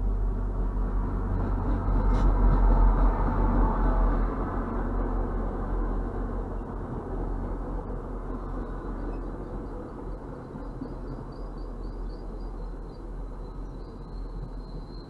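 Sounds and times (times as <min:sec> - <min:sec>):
train wheels rumbling and rattling: 0:00.0 - 0:15.0.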